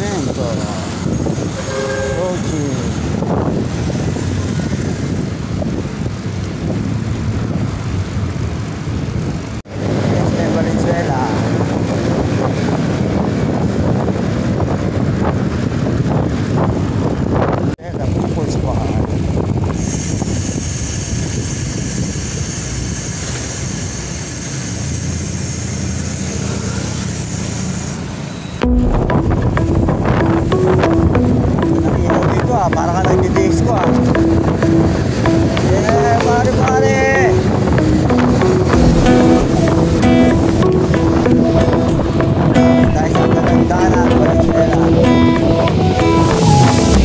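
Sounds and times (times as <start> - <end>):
wind buffeting microphone: 0.0 - 22.7, 28.6 - 47.0
road noise: 0.0 - 47.0.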